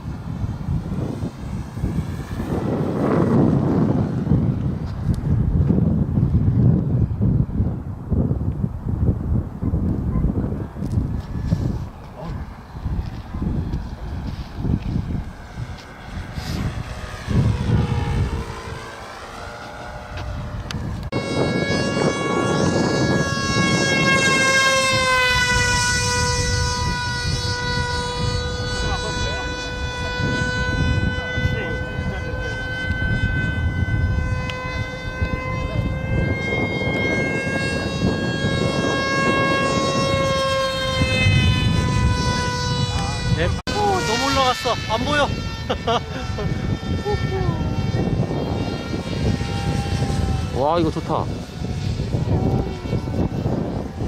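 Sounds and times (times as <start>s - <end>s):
model airplane motor whining: 0.0s - 8.6s, 9.8s - 54.0s
wind noise on microphone: 0.0s - 54.0s.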